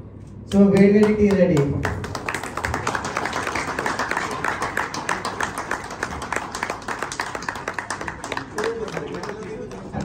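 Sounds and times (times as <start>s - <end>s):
people applauding: 0.5s - 10.0s.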